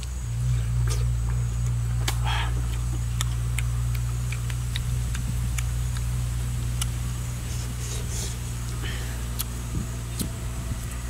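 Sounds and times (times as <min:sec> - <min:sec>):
low steady hum: 0:00.0 - 0:11.0
person chewing fruit: 0:00.0 - 0:11.0.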